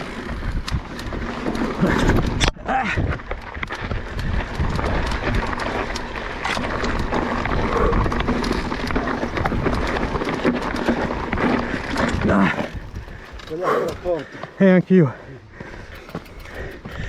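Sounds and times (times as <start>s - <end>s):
wind rumbling on microphone: 0.0s - 14.1s
bike knocking and rattling: 0.0s - 14.6s, 15.6s - 17.0s
tyres rolling over stones: 0.0s - 14.7s.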